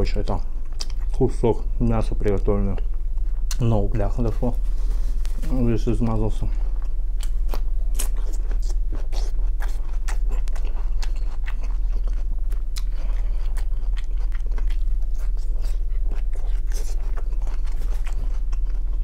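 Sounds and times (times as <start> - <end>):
steady low hum: 0.0 - 19.0
person chewing meat: 0.2 - 1.2, 2.2 - 5.5, 6.6 - 19.0.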